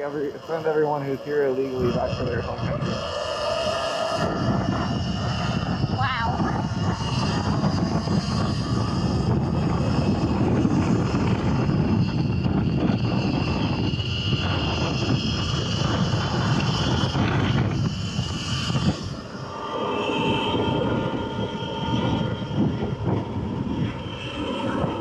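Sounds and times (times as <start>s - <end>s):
high whine of electric motor: 0.0s - 25.0s
wind rumbling on microphone: 0.0s - 25.0s.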